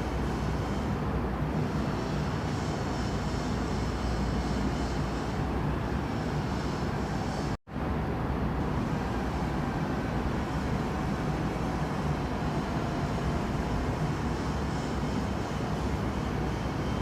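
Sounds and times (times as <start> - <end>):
noisy background rumble: 0.0 - 4.4, 5.0 - 17.0.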